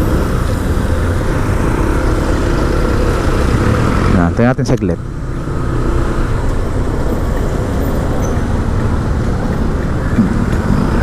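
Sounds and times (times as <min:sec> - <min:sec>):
road traffic engines running: 0:00.0 - 0:11.0.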